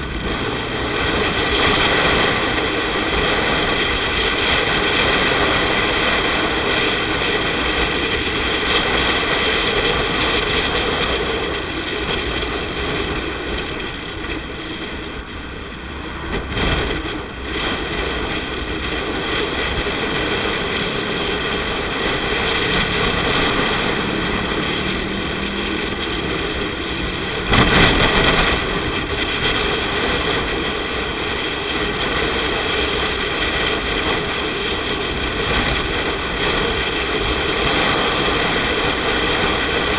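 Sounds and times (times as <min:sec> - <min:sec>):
loud burst of noise: 0:00.0 - 0:39.9
motorcycle engine running: 0:00.0 - 0:39.9
road and wind noise: 0:00.0 - 0:39.9.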